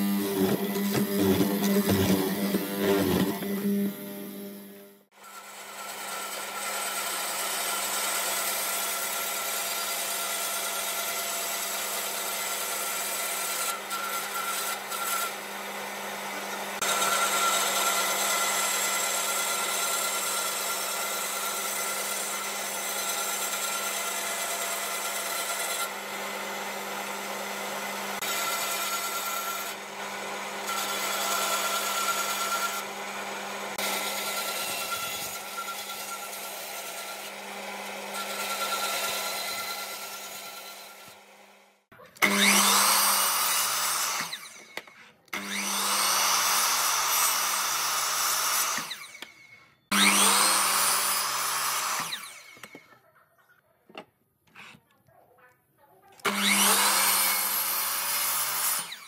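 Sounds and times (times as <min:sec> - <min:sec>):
bandsaw motor hum: 0:00.0 - 0:09.5, 0:12.9 - 0:52.8, 0:56.2 - 0:59.0
saw blade cutting wood: 0:00.0 - 0:41.3, 0:42.0 - 0:53.0, 0:54.5 - 0:54.8, 0:56.2 - 0:59.0.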